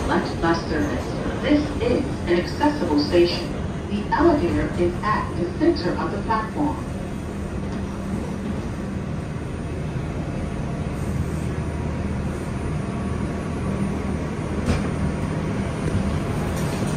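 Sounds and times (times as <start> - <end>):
subway car rumbling: 0.0 - 16.9.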